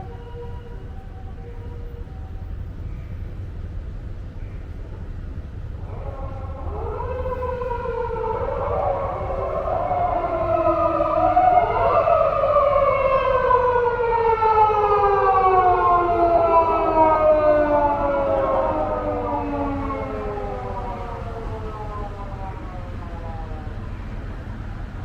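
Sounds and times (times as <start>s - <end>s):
police sirens wailing: 0.0s - 2.8s, 4.8s - 25.0s.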